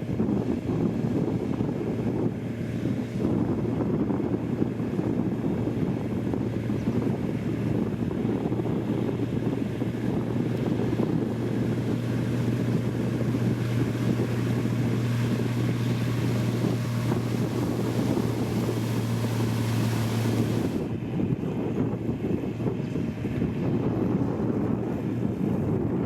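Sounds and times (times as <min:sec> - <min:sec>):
heavy machinery diesel engine humming: 0:00.0 - 0:26.0.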